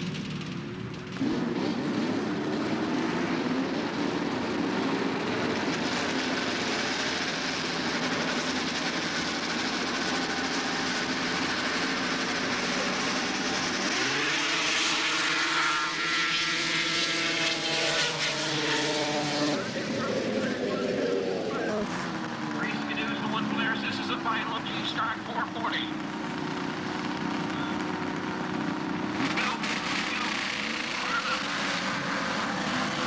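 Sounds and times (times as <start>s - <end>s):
snowmobile engines at high revs: 0.0s - 33.0s.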